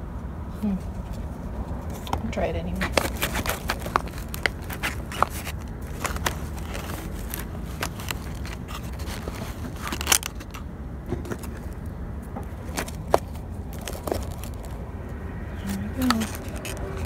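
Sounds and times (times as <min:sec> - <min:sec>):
fingers scraping potting soil: 0:01.0 - 0:11.9, 0:12.5 - 0:14.8, 0:15.6 - 0:17.0
plastic pots crackling: 0:01.0 - 0:17.0.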